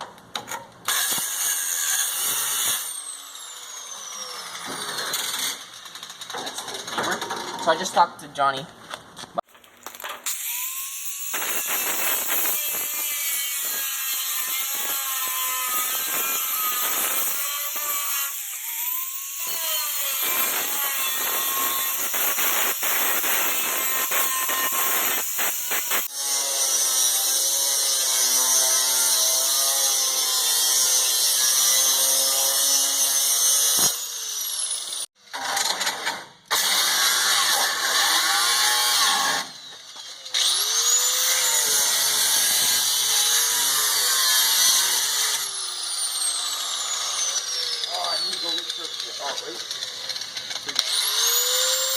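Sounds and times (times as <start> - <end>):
power tool cutting metal: 0.4 - 7.6, 10.0 - 51.9.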